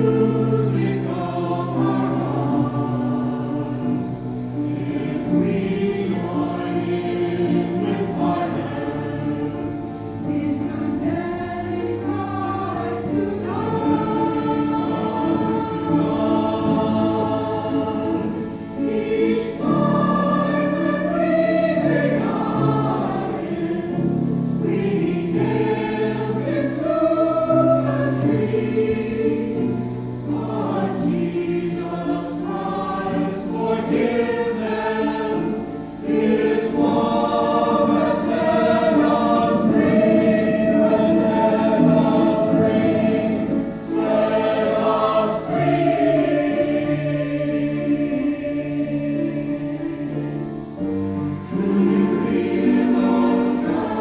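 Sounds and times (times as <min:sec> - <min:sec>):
church choir singing: 0:00.0 - 0:54.0
instrumental accompaniment: 0:00.0 - 0:54.0.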